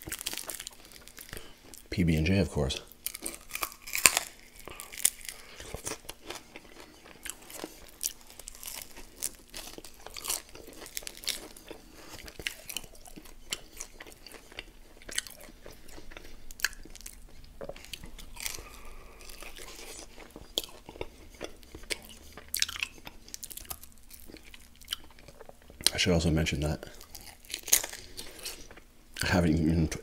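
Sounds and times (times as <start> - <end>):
person crunching and chewing food: 0.0 - 30.0.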